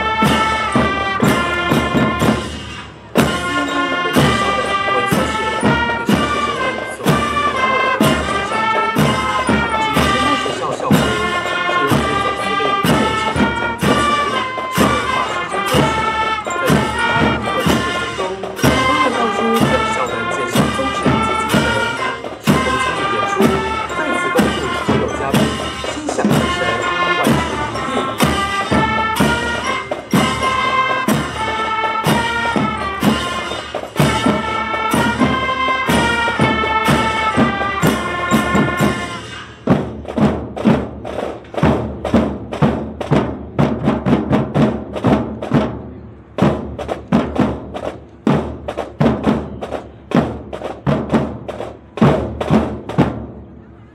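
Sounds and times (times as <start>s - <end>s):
brass melody: 0.0s - 53.2s
regular drum beats: 0.0s - 53.6s.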